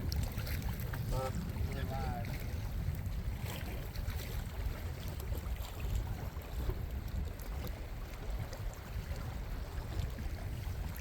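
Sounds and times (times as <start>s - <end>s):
water noise: 0.0s - 11.0s
wind rumble: 0.0s - 11.0s.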